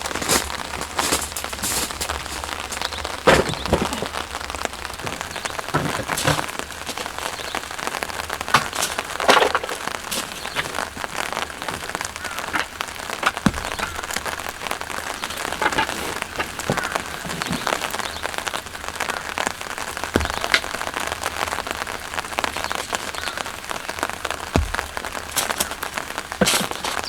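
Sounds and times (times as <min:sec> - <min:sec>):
heavy raindrops knocking: 0:00.0 - 0:27.0
raindrops ticking: 0:00.0 - 0:27.0
steady rain falling: 0:00.0 - 0:27.0.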